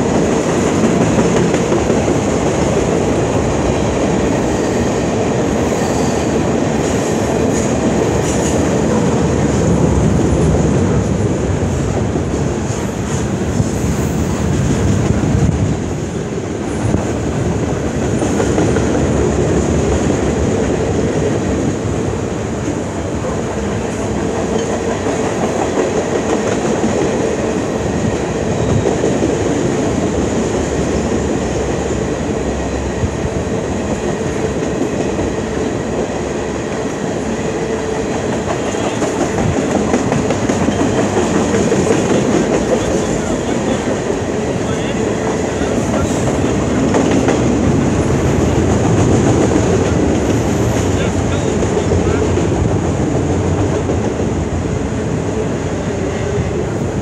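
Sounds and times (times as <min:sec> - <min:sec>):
steel wheels rumbling on rails: 0:00.0 - 0:57.0
train cars clanking: 0:00.0 - 0:57.0.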